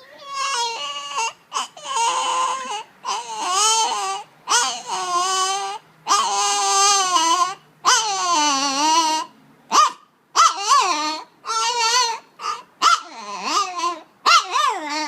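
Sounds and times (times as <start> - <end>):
small dog whining and yelping: 0.0 - 15.0.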